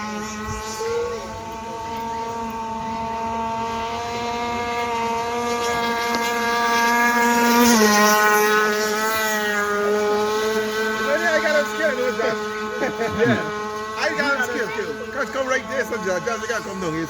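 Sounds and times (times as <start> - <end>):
model boat engine whining: 0.0 - 17.0.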